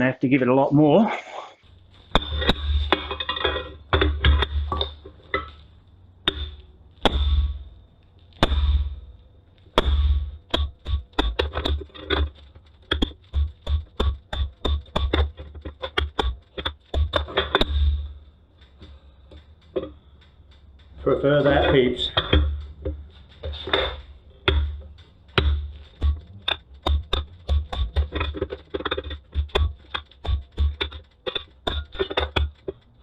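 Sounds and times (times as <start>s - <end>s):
hammer striking hot steel: 1.6s - 33.0s.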